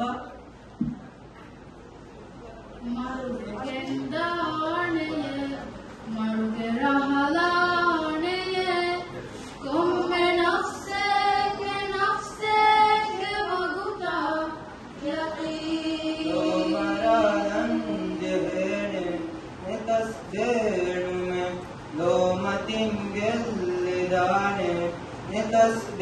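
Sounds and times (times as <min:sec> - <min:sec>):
group of young voices singing: 0:02.8 - 0:26.0.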